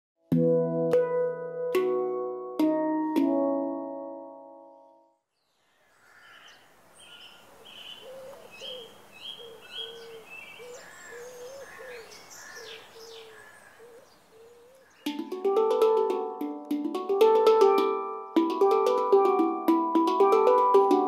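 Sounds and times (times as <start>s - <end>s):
faint outdoor background: 0.2s - 21.0s.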